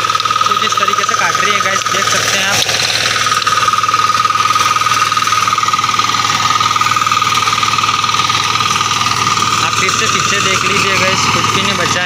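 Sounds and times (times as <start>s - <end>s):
high whine: 0.0s - 12.0s
small engine running under load: 0.0s - 12.0s.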